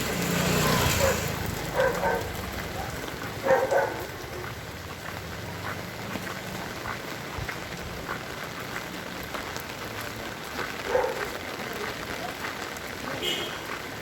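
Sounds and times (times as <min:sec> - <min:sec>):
heavy rain falling: 0:00.0 - 0:14.0
raindrops ticking: 0:01.3 - 0:14.0.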